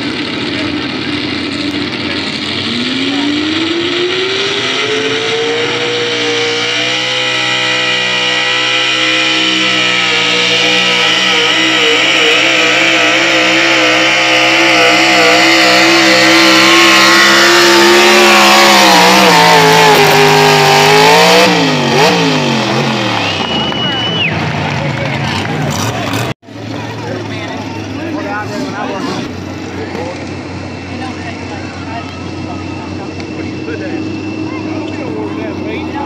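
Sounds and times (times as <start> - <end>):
engine revving under heavy load: 0.0 - 36.0.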